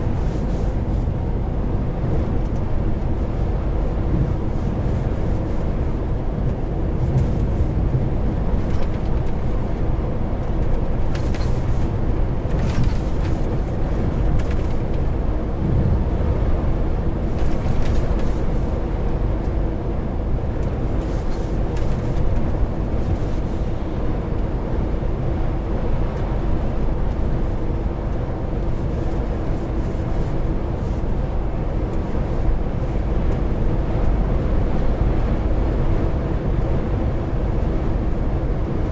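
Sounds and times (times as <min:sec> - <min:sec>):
truck diesel engine running: 0:00.0 - 0:38.8
road and tyre noise: 0:00.0 - 0:38.9.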